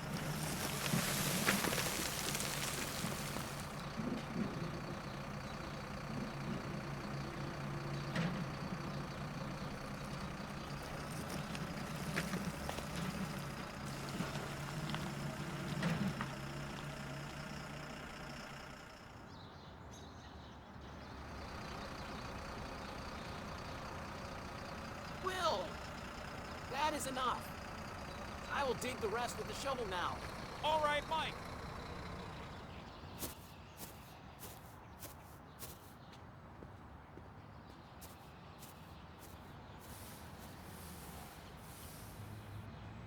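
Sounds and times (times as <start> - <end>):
excavator engine running: 0.0 - 19.4, 21.0 - 35.2, 39.2 - 42.6.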